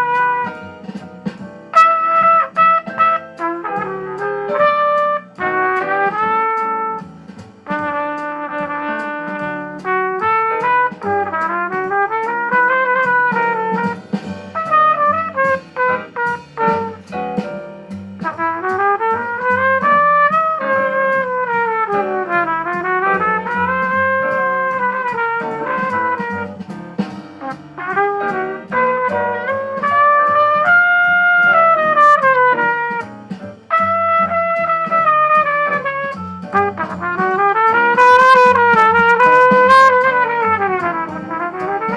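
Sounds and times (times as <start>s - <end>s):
backing accompaniment: 0.0s - 41.9s
trumpet playing jazz ballad: 0.0s - 41.9s.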